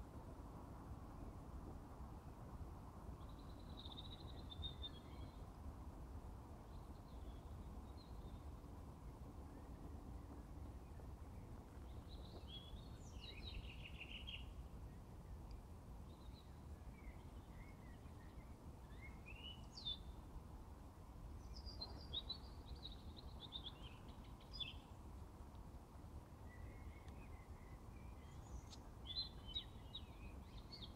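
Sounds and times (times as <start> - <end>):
distant songbirds singing: 3.2 - 5.6, 6.6 - 20.4, 21.2 - 25.3, 26.2 - 30.9.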